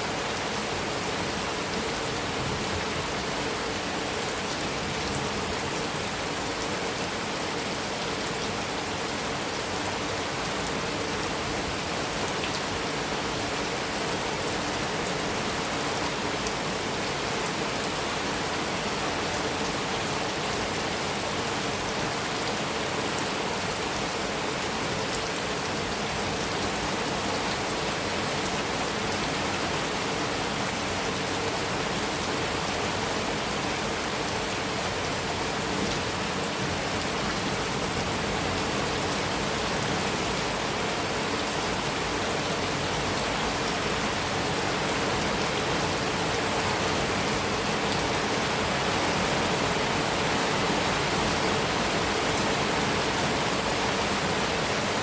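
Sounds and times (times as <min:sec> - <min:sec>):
heavy rain on metal roof: 0:00.0 - 0:55.0.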